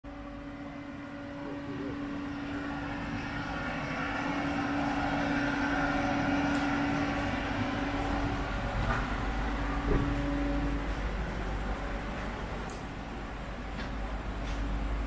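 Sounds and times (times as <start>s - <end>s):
steady mechanical hum: 0.1s - 15.0s.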